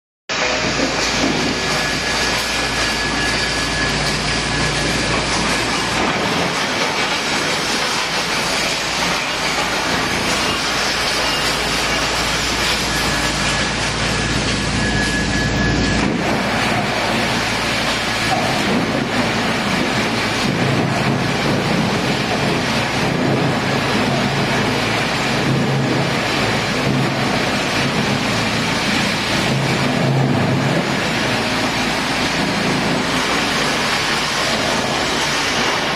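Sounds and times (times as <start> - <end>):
wood chipper running: 0.3 - 35.9.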